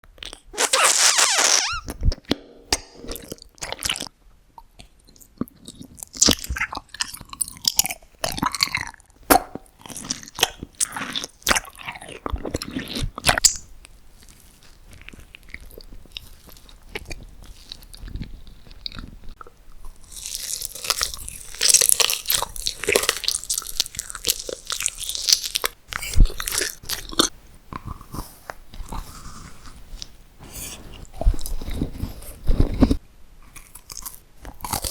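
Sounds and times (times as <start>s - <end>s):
crunchy chewing of food: 4.8s - 34.9s.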